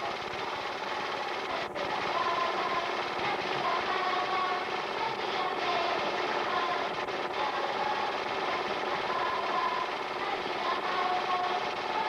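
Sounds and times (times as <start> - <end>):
film projector whirring and rattling: 0.0 - 12.0.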